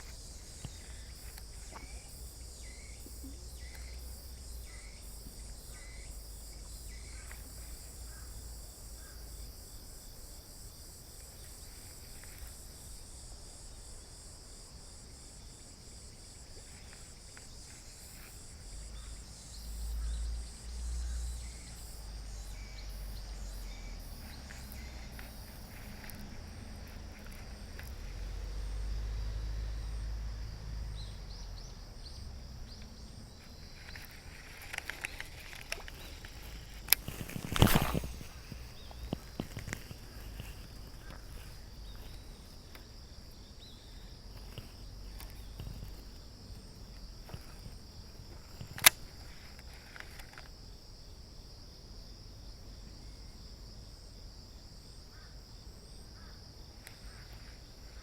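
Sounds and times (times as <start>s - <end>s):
short insect chirps: 0.0s - 51.5s
crickets or cicadas shrilling: 0.0s - 58.0s.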